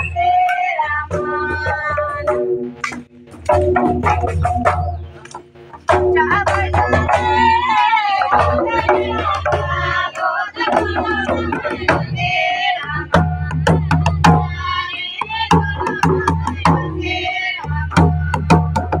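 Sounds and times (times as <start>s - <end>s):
person singing: 0.0s - 2.4s, 5.9s - 19.0s
drum beats: 0.0s - 19.0s.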